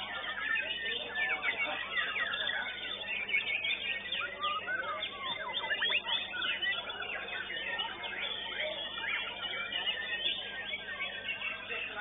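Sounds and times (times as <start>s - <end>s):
songbirds whistling and chirping: 0.0s - 12.0s.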